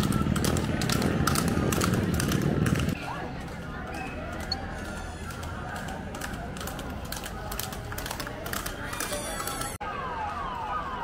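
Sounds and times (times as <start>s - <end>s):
murmur of crowd: 0.0s - 11.0s.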